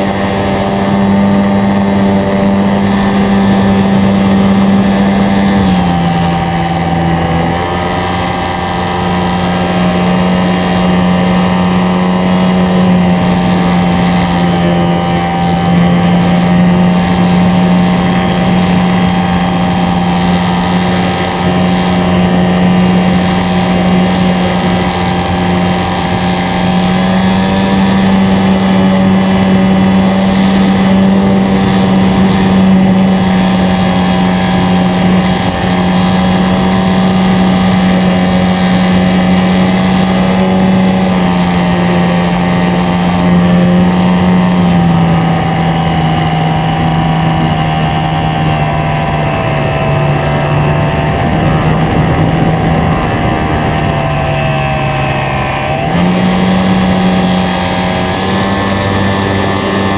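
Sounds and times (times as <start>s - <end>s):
model airplane motor droning: 0.0s - 59.9s.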